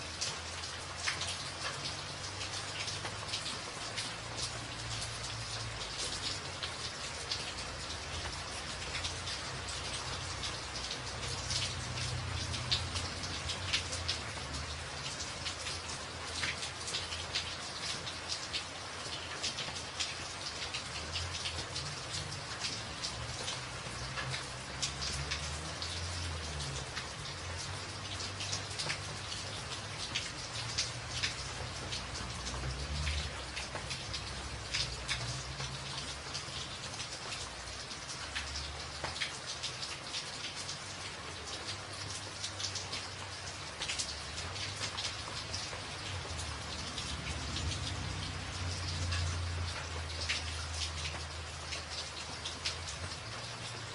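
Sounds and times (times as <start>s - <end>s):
rain drumming on a tin roof: 0.0s - 53.9s.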